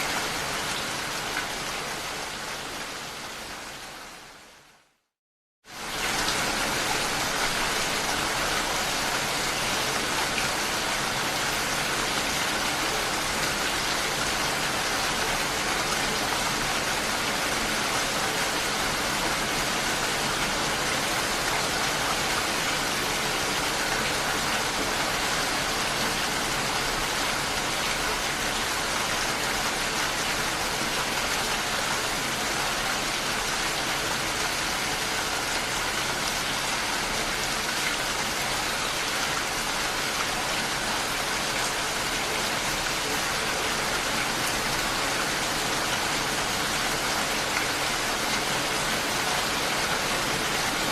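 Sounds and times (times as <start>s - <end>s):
steady rainfall: 0.0s - 50.9s.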